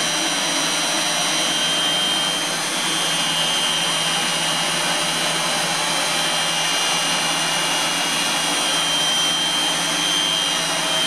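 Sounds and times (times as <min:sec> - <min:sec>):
centrifuge whirring: 0:00.0 - 0:11.0
high-pitched whining tones: 0:00.0 - 0:11.0.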